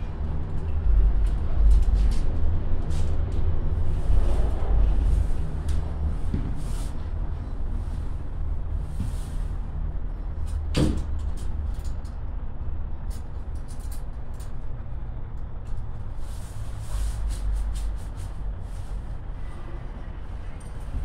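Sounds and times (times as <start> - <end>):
cable car cabin rumble: 0.0 - 21.0.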